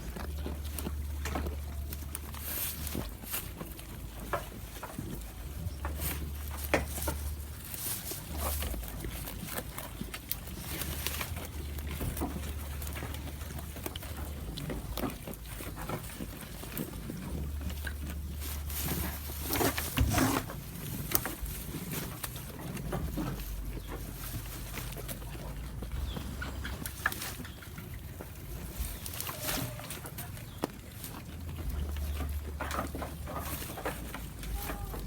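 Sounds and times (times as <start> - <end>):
goat chewing with crisp crunches: 0.0 - 35.0.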